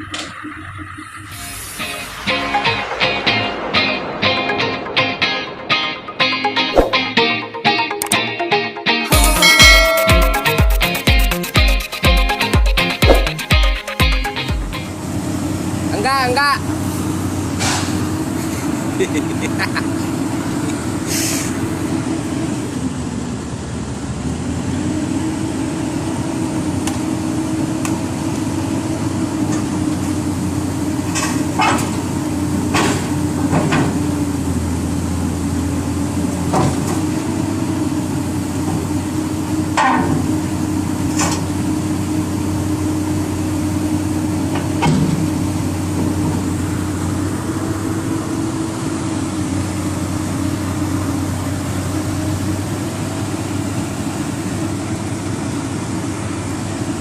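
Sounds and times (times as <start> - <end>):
heavy diesel engine running: 0.0 - 7.6, 9.1 - 57.0.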